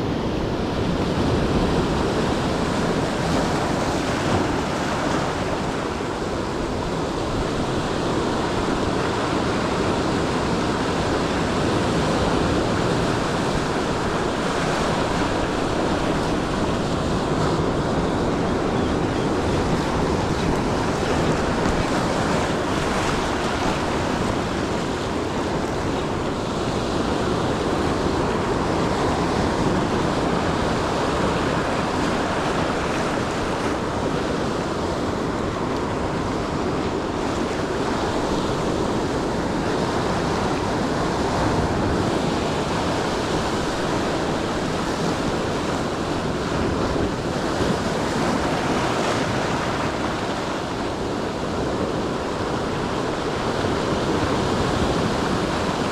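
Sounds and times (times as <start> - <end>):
ocean surf washing onto shore: 0.0 - 55.9
wind on microphone: 0.0 - 55.9.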